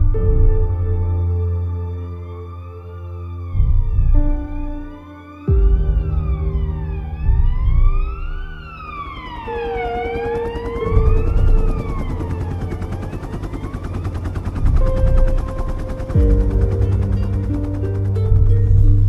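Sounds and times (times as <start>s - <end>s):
soundtrack music with deep booms: 0.0s - 19.0s
siren wailing: 1.4s - 18.1s.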